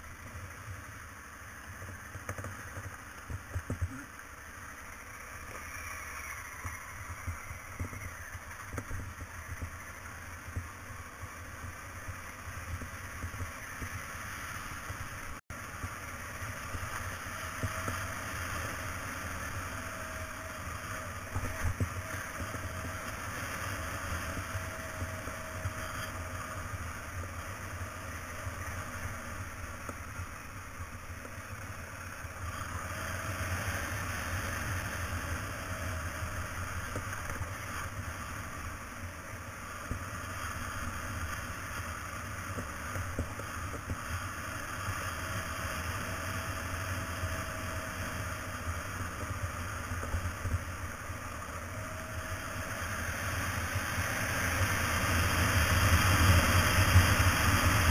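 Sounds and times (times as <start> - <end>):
motorcycle engine rumble: 0.0 - 57.9
wind and road noise: 0.0 - 57.9.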